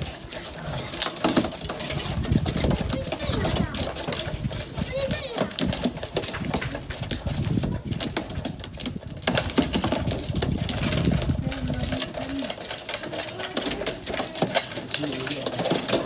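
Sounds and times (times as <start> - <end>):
pigeons pecking at feed: 0.0 - 16.0.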